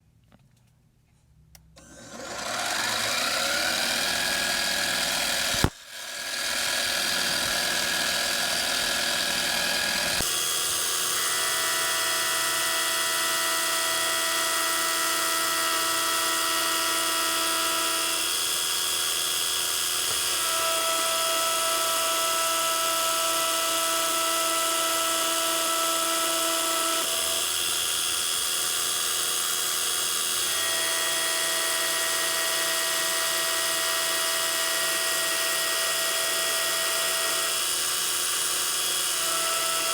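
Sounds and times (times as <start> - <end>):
lathe motor whining: 1.8 - 18.3, 19.0 - 28.0, 28.9 - 39.9.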